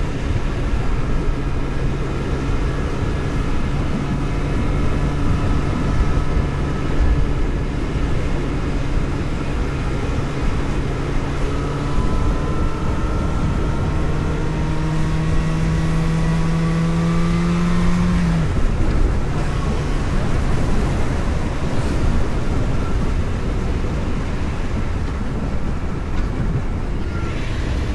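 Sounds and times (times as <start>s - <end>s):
car engine accelerating: 0.0s - 27.9s
road noise: 0.0s - 27.9s
wind noise: 0.0s - 27.9s.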